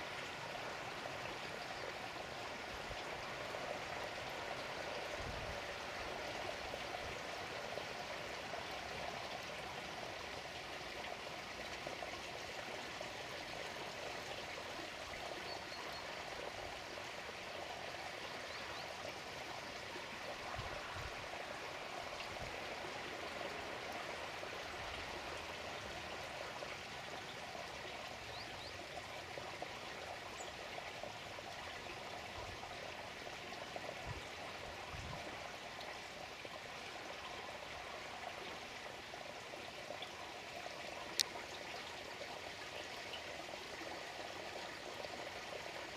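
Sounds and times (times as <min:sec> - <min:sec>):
water trickling into pond: 0:00.0 - 0:45.9.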